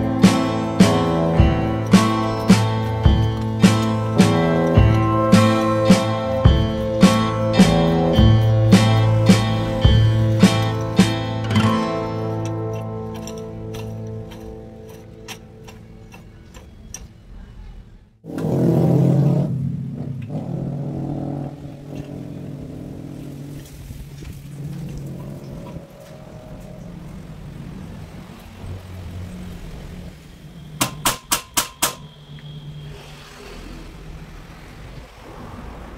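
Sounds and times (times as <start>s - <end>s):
engine running: 0.0s - 17.3s, 18.2s - 31.2s.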